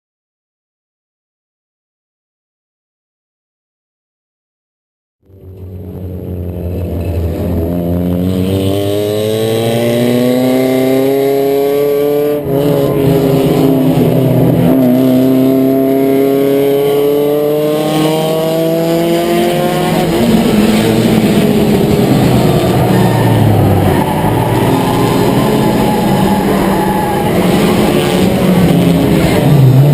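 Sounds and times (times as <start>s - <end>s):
race car engine revving: 5.2s - 29.9s.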